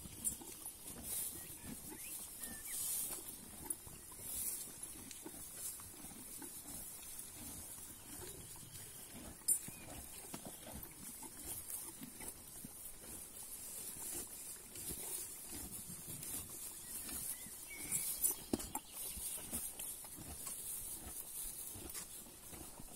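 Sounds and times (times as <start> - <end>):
mule chewing hay: 0.0 - 22.9.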